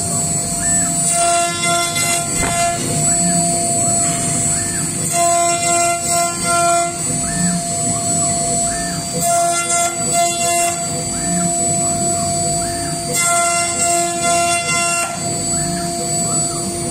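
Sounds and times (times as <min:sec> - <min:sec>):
router spindle whining: 0:00.0 - 0:16.9.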